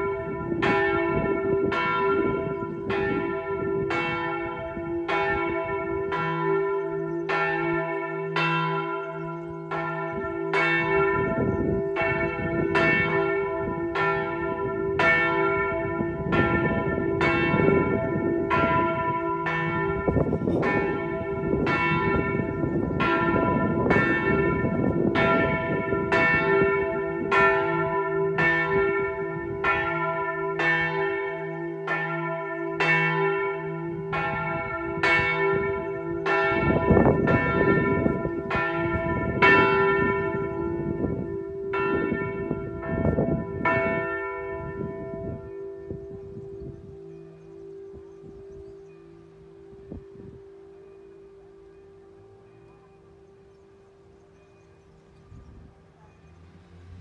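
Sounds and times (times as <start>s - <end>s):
large church bell ringing: 0.0s - 57.0s.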